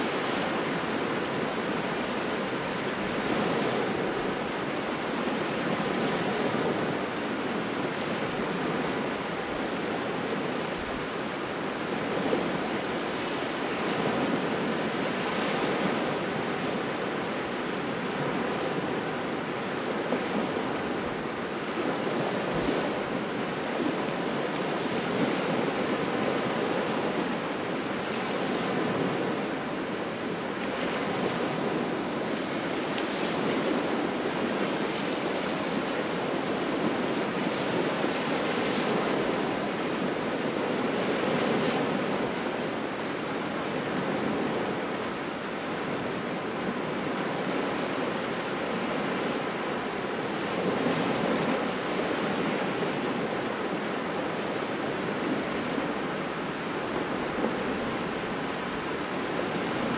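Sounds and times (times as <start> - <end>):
strong wind: 0.0 - 59.9
waves washing onto shore: 0.0 - 59.9.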